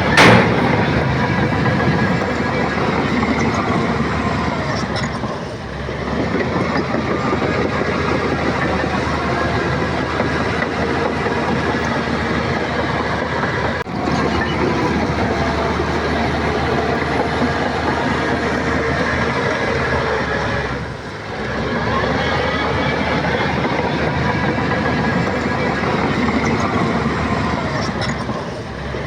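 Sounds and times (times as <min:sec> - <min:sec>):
bulldozer diesel engine under load: 0:00.0 - 0:29.0
steel tracks clattering: 0:00.0 - 0:29.0.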